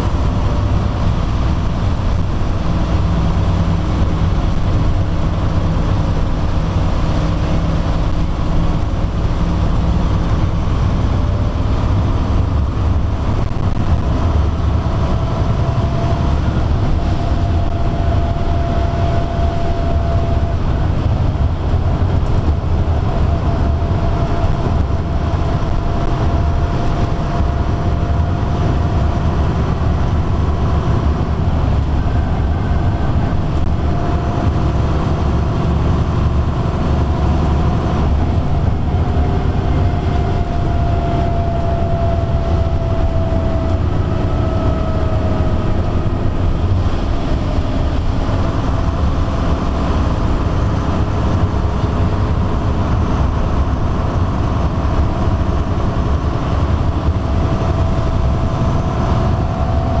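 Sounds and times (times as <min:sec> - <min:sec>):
bus diesel engine drone: 0:00.0 - 1:00.0
faint engine whine: 0:00.0 - 1:00.0.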